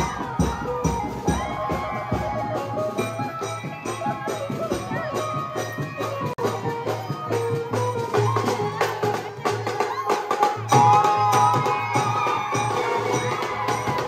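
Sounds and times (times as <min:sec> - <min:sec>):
folk music with percussion beat: 0:00.0 - 0:14.0.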